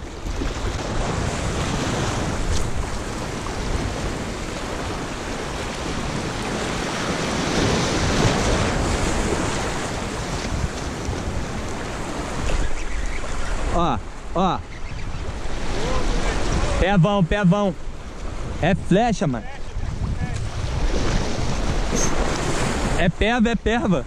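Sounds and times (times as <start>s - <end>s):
wind buffeting microphone: 0.0s - 16.8s, 17.8s - 23.0s
waves breaking over rocks: 0.0s - 16.9s, 17.7s - 24.0s.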